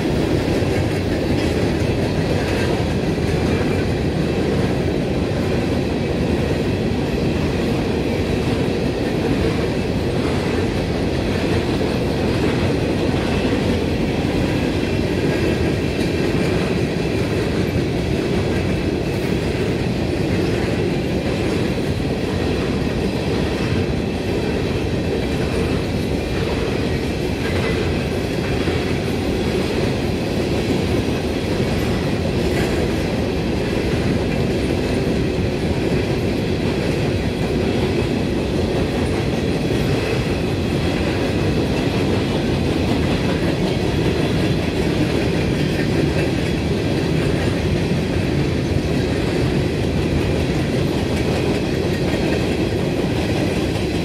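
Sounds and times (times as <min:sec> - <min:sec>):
freight train rumbling past: 0:00.0 - 0:54.0
wheels clattering on rails: 0:00.0 - 0:54.0.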